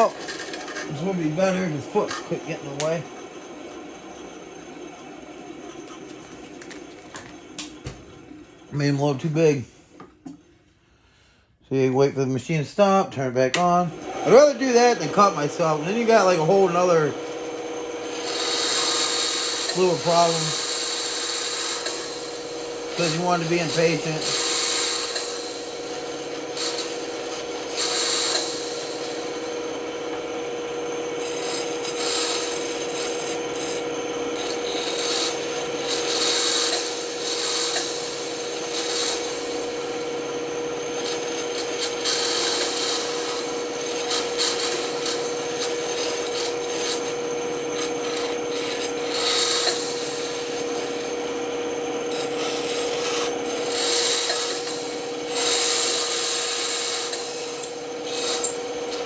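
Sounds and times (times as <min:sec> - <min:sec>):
saw blade cutting wood: 0:00.0 - 0:04.6, 0:13.6 - 0:59.0
band saw humming: 0:00.0 - 0:09.7, 0:12.2 - 0:59.0.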